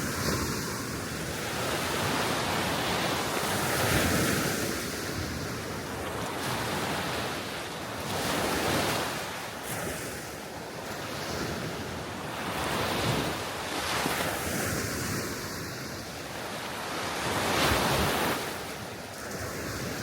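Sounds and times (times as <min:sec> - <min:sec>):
wind on microphone: 0:00.0 - 0:16.3, 0:17.2 - 0:20.0
sea waves washing ashore: 0:00.0 - 0:20.0.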